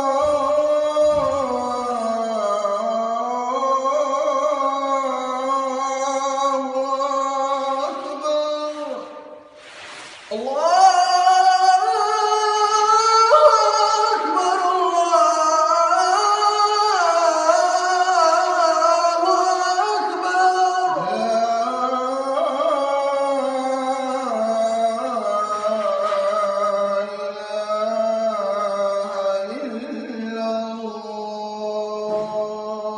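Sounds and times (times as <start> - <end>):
person chanting melodically: 0.0 - 9.6, 10.2 - 32.9.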